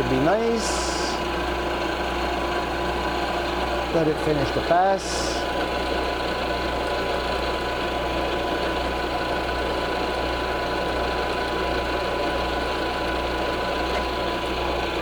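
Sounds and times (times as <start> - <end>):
milling machine whirring: 0.0 - 15.0.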